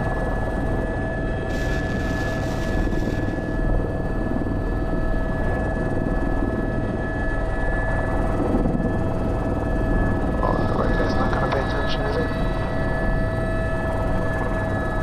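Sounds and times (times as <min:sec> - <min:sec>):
helicopter turbine whine: 0:00.0 - 0:15.0.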